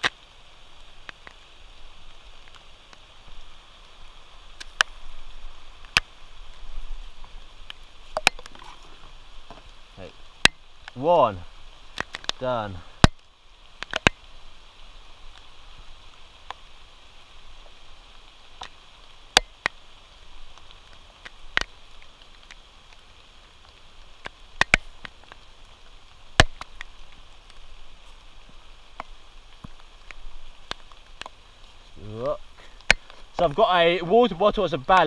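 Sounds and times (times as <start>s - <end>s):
rain hissing: 0.0s - 35.0s.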